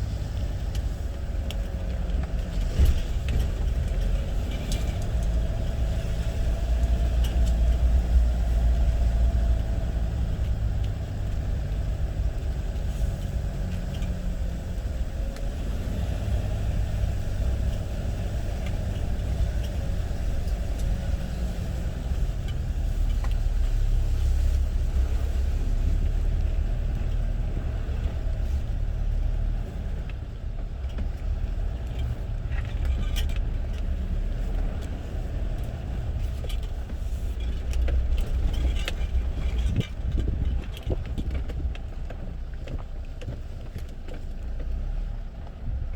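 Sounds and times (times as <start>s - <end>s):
motor vehicle rumble: 0.0s - 45.9s.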